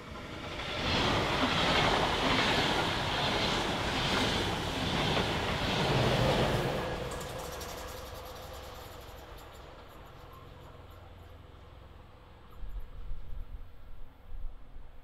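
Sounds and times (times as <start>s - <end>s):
wheels on rail: 0.0s - 13.5s
train passing at speed: 0.0s - 14.9s.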